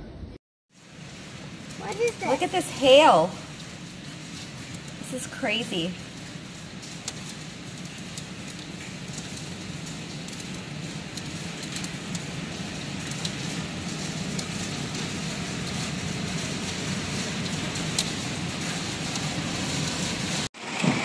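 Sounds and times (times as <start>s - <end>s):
hailstones ticking: 0.8s - 20.8s
heavy rain hissing: 0.8s - 21.0s.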